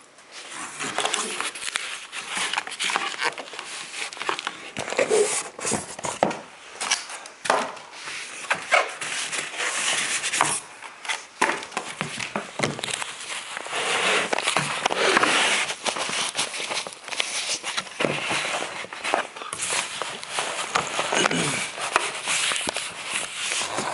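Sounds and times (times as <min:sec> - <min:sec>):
packaging rustling and crinkling: 0:00.3 - 0:23.9.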